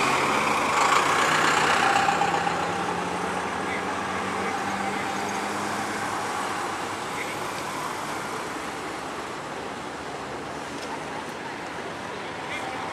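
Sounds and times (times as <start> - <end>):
highway traffic noise: 0.0 - 12.9.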